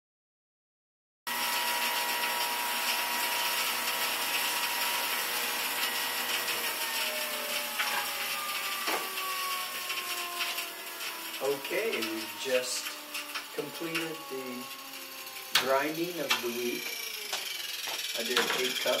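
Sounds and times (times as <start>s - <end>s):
electric grain mill grinding: 1.3s - 19.0s.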